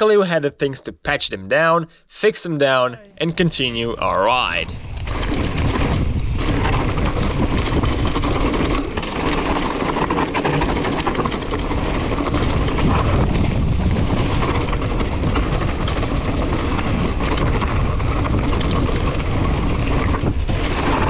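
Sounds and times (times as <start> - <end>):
bike tyres rattling on rough ground: 3.4 - 21.0.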